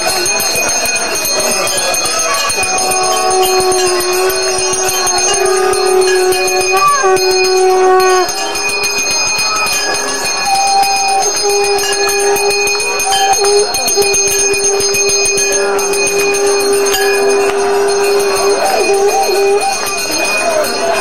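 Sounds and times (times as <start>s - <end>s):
hand bells ringing rapidly: 0.0s - 21.0s
steady held tone: 0.0s - 21.0s.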